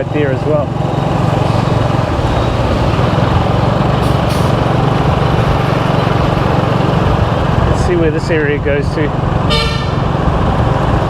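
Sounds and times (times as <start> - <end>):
motorbike engine and road noise: 0.0 - 11.0.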